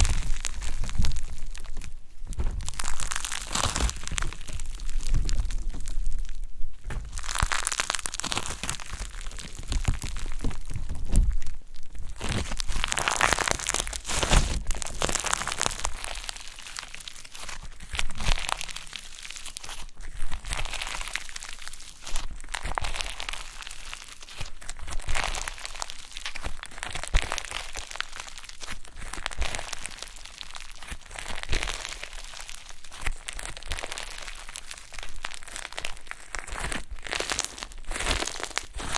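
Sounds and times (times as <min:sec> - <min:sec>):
slime crackling and crunching: 0:00.0 - 0:38.9.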